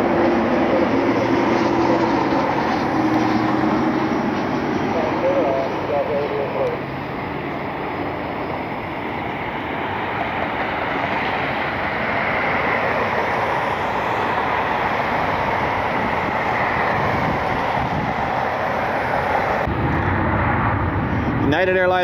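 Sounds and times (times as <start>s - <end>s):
jet engines at takeoff: 0.0s - 22.0s.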